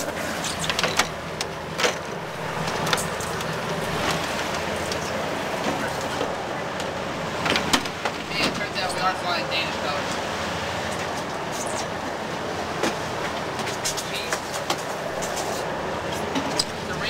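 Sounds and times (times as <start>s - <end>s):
boat engine running: 0.0s - 17.0s
water noise: 0.0s - 17.0s
wind: 0.0s - 17.0s.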